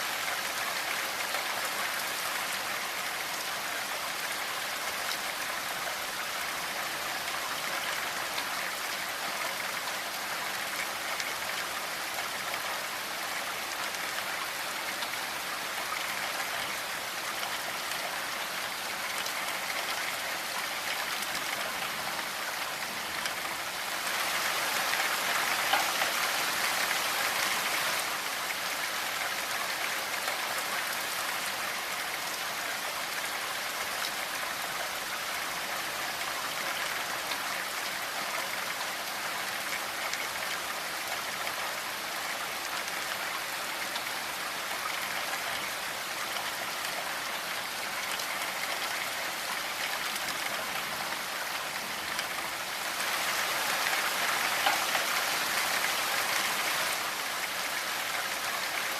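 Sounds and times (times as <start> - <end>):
steady rainfall: 0.0 - 58.9
raindrops pattering on a surface: 0.1 - 58.9.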